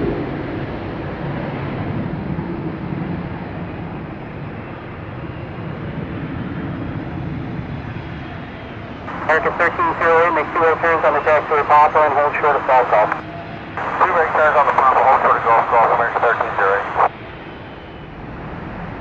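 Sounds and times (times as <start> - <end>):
jet airliner engine and rushing air: 0.0 - 19.0.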